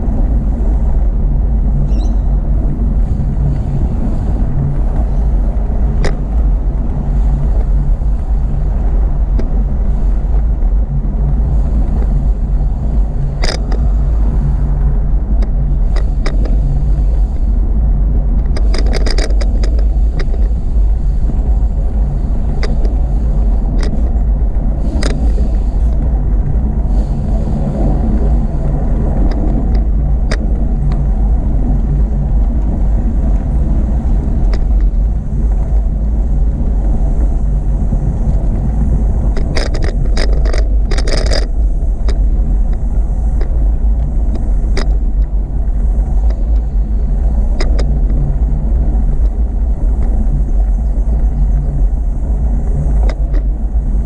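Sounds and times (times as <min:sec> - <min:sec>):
bicycle clicks and rattles: 0:00.0 - 0:54.0
wind rumbling on microphone: 0:00.0 - 0:54.0.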